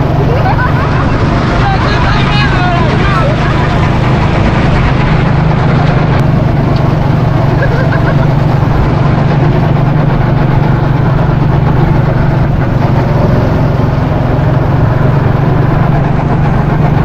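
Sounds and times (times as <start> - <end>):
go-kart engine droning: 0.0 - 17.0.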